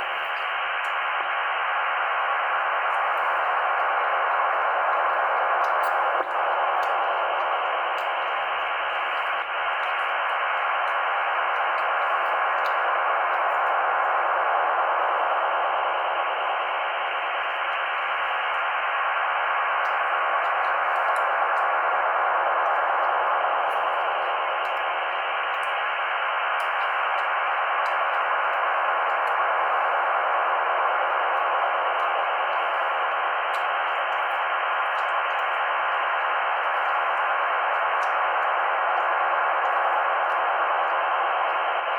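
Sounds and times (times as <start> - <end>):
radio interference hiss: 0.0 - 41.9.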